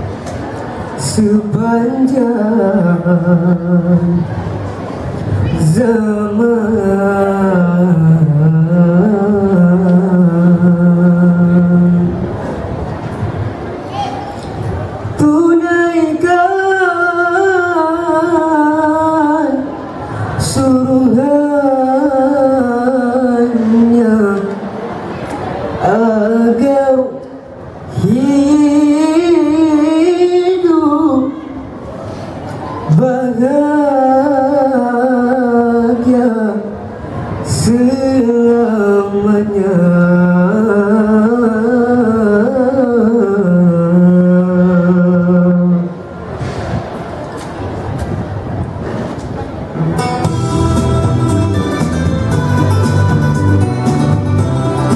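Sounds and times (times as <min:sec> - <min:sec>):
boys singing through microphones: 0:00.0 - 0:12.6, 0:14.3 - 0:46.7.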